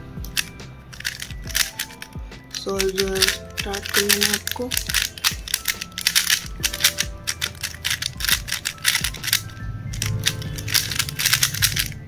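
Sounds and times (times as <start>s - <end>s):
background music: 0.0s - 12.0s
puzzle cube clicking: 0.2s - 12.0s.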